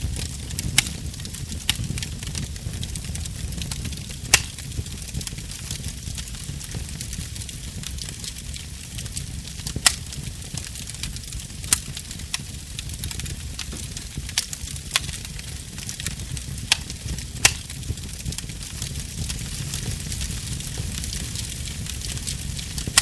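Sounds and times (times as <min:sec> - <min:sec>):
fire burning with rumble: 0:00.0 - 0:23.0
wood popping and crackling: 0:00.0 - 0:23.0.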